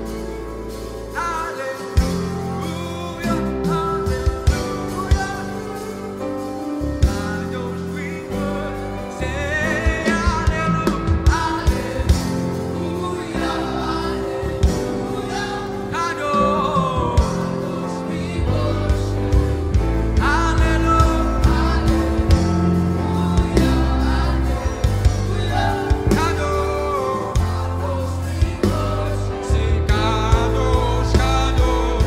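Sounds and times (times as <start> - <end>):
gospel singing with band: 0.0 - 32.0
steady drum beat: 1.8 - 32.0.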